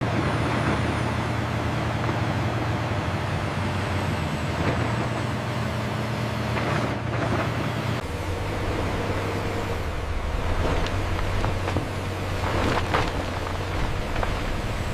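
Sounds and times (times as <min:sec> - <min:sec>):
heavy diesel engine running: 0:00.0 - 0:14.9
rumble of working noise: 0:00.0 - 0:14.9.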